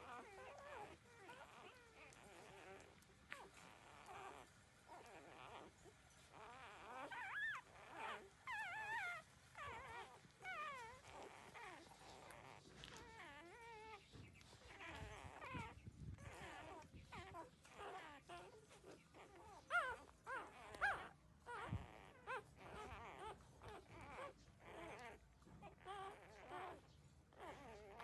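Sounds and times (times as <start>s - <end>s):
puppies whimpering and squeaking: 0.0s - 28.0s.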